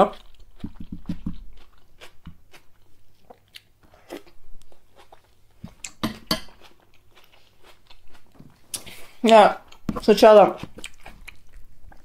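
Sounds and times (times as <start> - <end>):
chewing tomato: 0.0 - 12.0.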